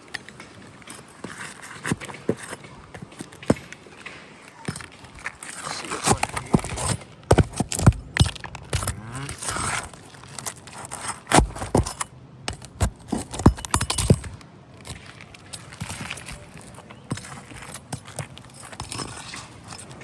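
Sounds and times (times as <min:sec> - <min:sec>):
hand work on roof shingles: 0:00.0 - 0:20.0.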